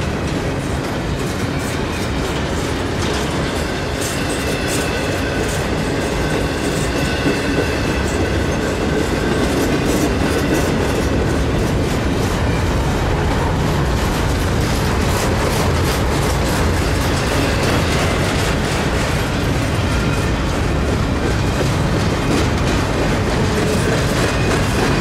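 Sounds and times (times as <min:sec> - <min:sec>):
freight train rumbling past: 0:00.0 - 0:25.0
wheels clicking over rail joints: 0:00.0 - 0:25.0.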